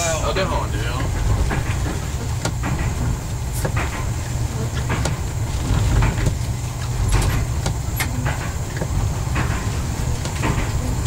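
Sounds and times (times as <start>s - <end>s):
low diesel engine drone: 0.0s - 11.0s
sharp clicks and rattles: 0.2s - 11.0s.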